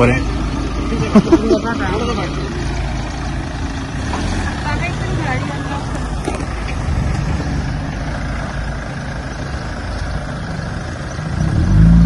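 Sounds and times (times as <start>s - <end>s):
suv engine at low revs: 0.0s - 12.0s.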